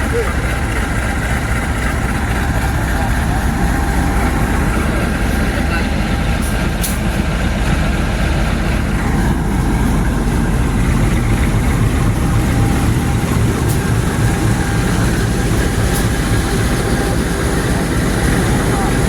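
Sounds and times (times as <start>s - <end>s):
train engine rumble: 0.0s - 19.0s.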